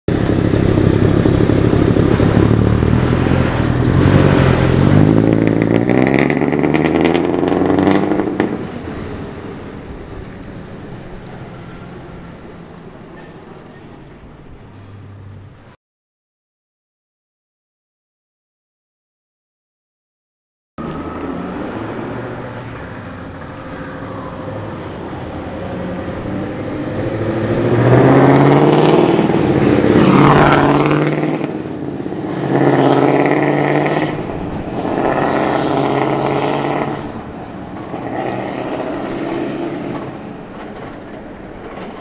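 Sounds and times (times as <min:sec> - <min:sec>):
truck diesel engine driving past: 0:00.1 - 0:15.8, 0:20.8 - 0:42.0.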